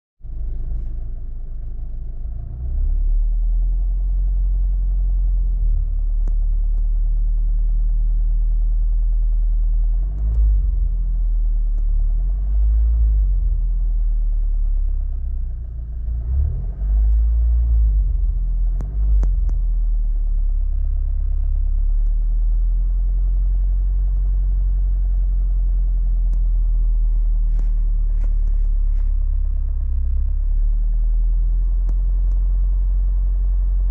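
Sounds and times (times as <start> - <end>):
car engine running: 0.2 - 33.9.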